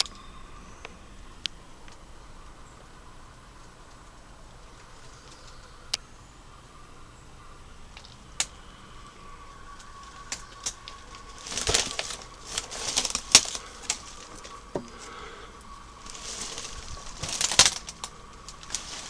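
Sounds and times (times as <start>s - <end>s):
dry leaves and twigs crackling: 0.0s - 19.0s.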